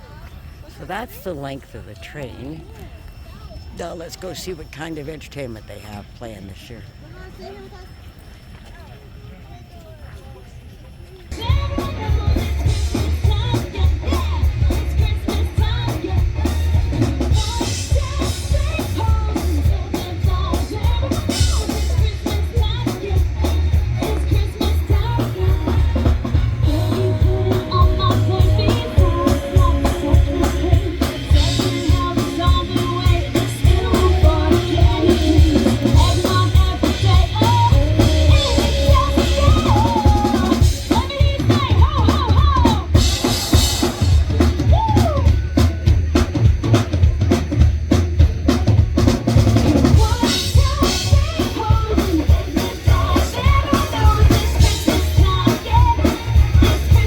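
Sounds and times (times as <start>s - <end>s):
drum kit steady beat: 11.3s - 57.0s
live band music: 11.3s - 57.0s.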